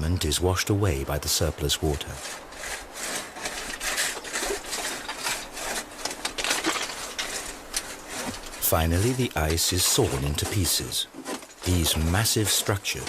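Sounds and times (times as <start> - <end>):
saw rasping through ice: 1.9 - 13.0.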